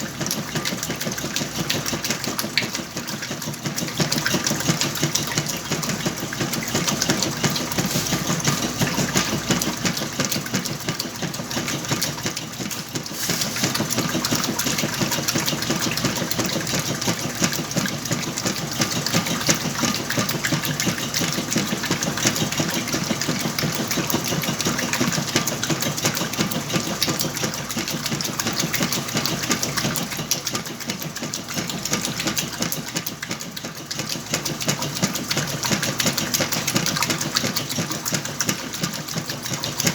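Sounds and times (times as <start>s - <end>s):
washing machine hum and rattle: 0.0s - 39.9s.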